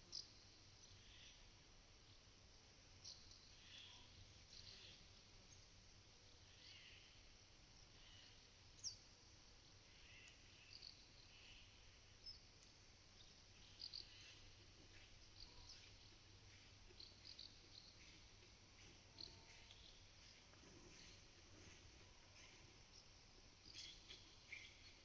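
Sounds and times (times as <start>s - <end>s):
small birds chirping: 3.0s - 25.0s.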